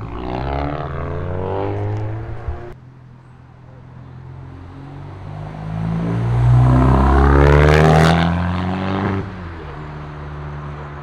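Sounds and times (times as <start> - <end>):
car engine accelerating hard: 0.0 - 2.8, 4.2 - 11.0.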